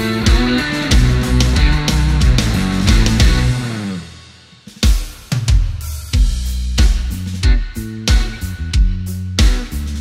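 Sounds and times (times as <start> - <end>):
rock music with guitar and drums: 0.0 - 10.0.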